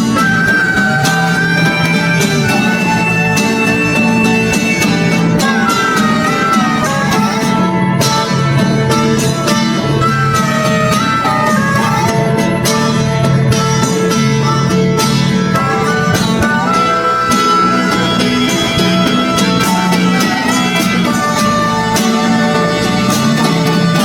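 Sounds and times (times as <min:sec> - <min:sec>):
country music with plucked strings: 0:00.0 - 0:24.0.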